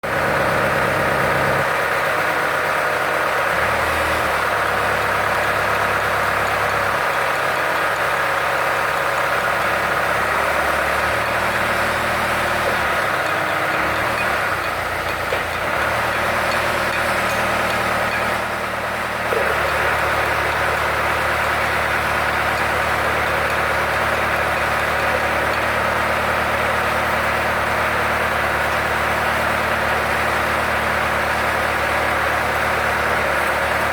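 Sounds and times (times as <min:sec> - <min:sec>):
boring machine droning: 0:03.5 - 0:33.9.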